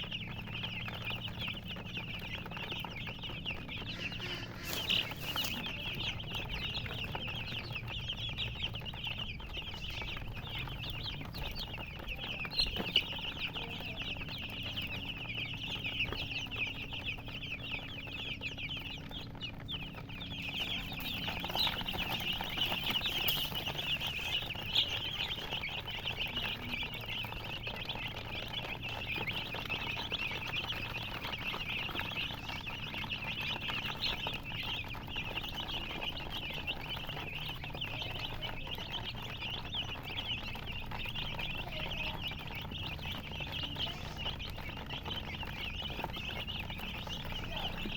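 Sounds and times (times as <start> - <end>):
baby chicks peeping: 0.0 - 47.9.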